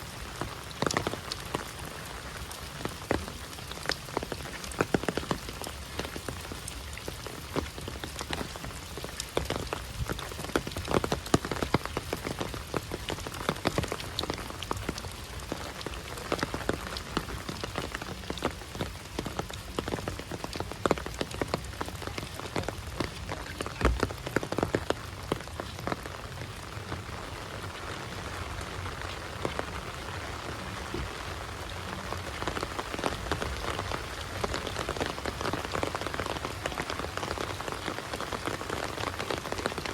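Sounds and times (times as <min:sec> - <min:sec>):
close raindrop impacts: 0:00.0 - 0:39.9
heavy rain falling: 0:00.0 - 0:39.9.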